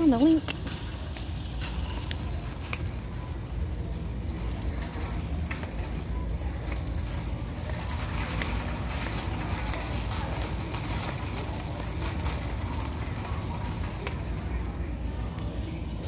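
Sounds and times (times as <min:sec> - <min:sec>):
shopping cart rolling: 0:00.0 - 0:16.0.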